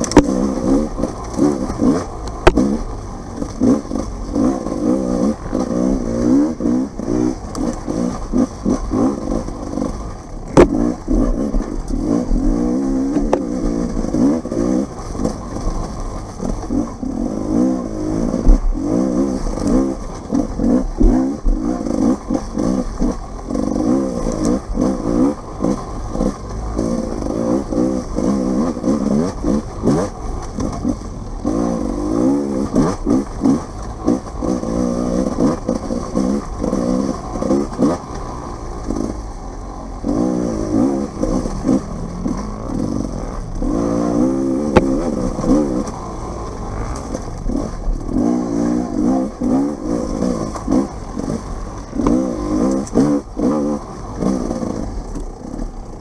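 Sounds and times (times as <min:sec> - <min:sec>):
clattering over rough ground: 0:00.0 - 0:56.0
dirt bike engine revving: 0:00.0 - 0:56.0.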